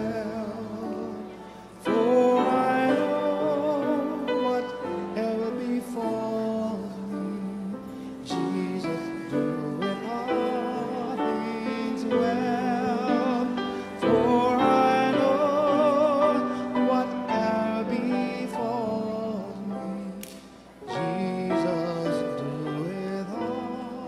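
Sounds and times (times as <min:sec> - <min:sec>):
slow music with singing voice: 0:00.0 - 0:24.0.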